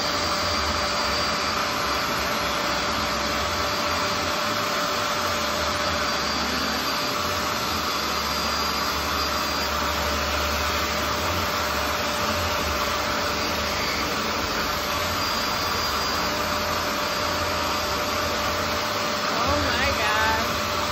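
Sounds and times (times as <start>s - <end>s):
carpet cleaner motor whining: 0.0s - 20.9s.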